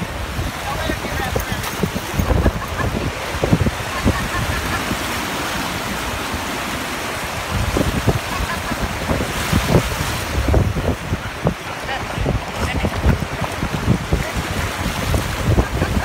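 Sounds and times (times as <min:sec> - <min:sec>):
surf washing over sand: 0:00.0 - 0:16.0
wind rumbling on microphone: 0:00.0 - 0:16.0.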